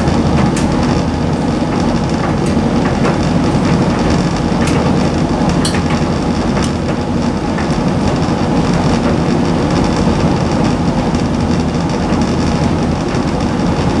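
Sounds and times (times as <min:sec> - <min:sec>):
tumble dryer drum turning: 0:00.0 - 0:14.0.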